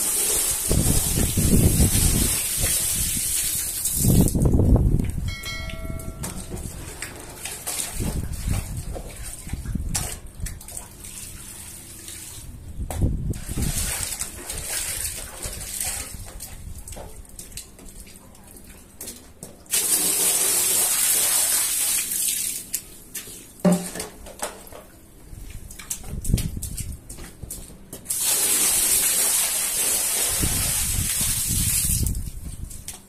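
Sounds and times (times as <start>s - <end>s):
water splashing over rug: 0.0s - 4.7s, 6.3s - 12.6s, 13.2s - 23.5s, 25.3s - 33.0s.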